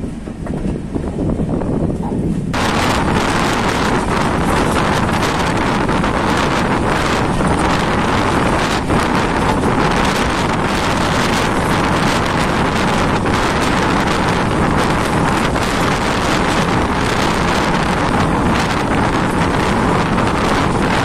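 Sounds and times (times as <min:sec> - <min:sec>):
train running on track: 0:00.0 - 0:21.0
wind buffeting microphone: 0:00.0 - 0:21.0.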